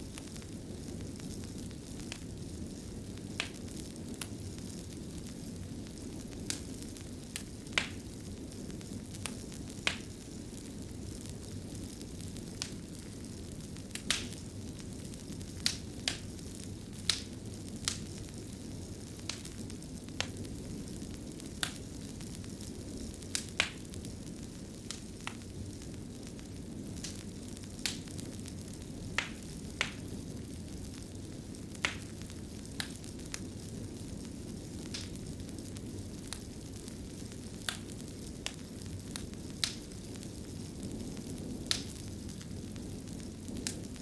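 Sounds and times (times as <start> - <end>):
sharp pops of fire: 0.0 - 44.0
wood fire crackling: 0.0 - 44.0.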